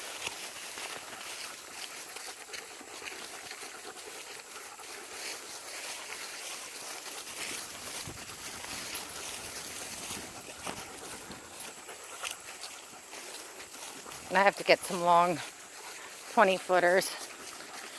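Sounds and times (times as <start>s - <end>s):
footsteps crunching: 0.0s - 17.9s.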